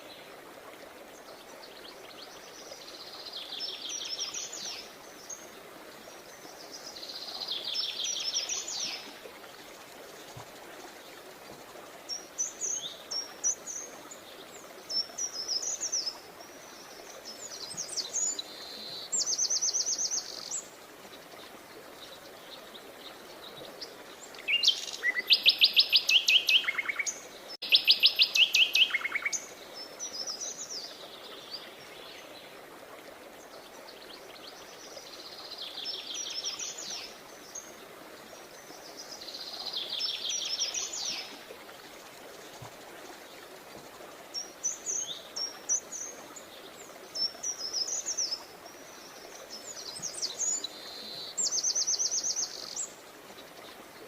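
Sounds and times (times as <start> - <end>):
faint steady background hiss: 0.0 - 54.0
songbirds chirping and trilling: 10.0 - 54.0.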